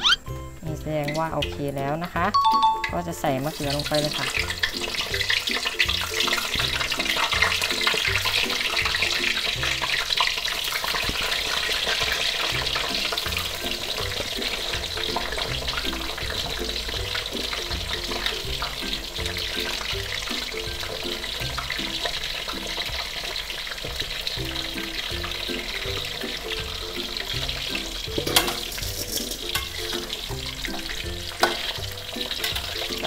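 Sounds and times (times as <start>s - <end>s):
slices deep-frying in oil: 0.0s - 33.0s
soft background music: 0.0s - 33.0s.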